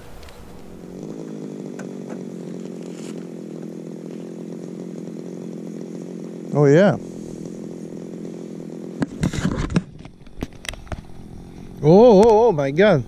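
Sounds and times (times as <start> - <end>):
ice auger engine running: 0.0 - 13.0.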